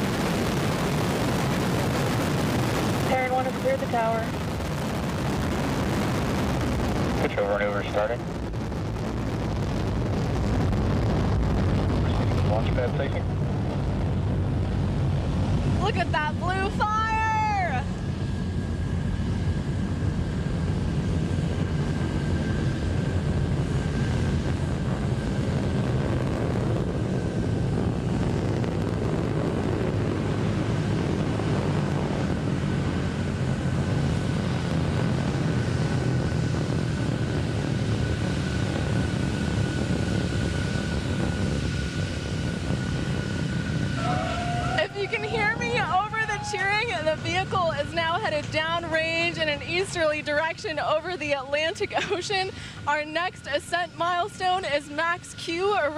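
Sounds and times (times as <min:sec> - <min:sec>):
rocket engine rumble: 0:00.0 - 0:55.9.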